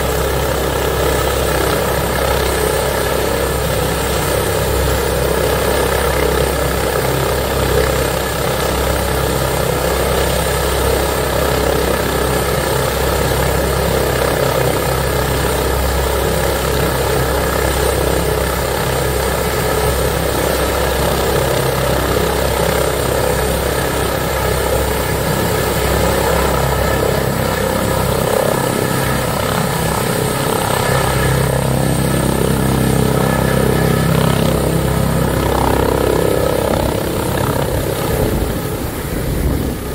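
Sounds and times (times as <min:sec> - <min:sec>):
helicopter engines and rotors running: 0:00.0 - 0:39.9.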